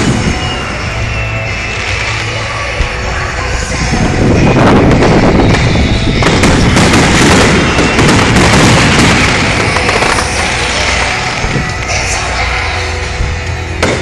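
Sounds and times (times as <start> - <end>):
fireworks cracking and popping: 0.0 - 3.3, 4.1 - 12.4.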